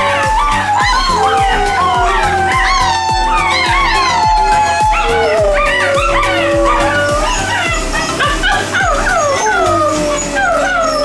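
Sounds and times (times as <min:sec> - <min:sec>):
puppies yipping and whining: 0:00.0 - 0:11.0
wolf puppy howling: 0:00.0 - 0:11.0.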